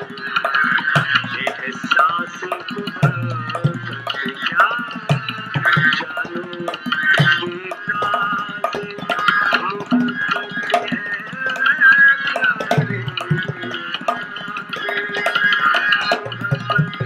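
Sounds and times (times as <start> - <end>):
tabla sharp strokes: 0.0 - 17.0.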